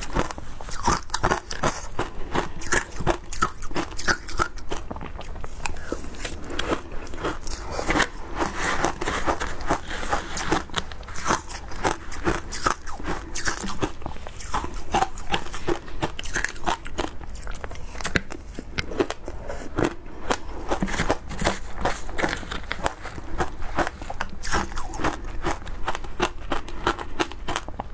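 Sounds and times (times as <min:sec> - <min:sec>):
ice crunching while chewed: 0:00.0 - 0:27.9.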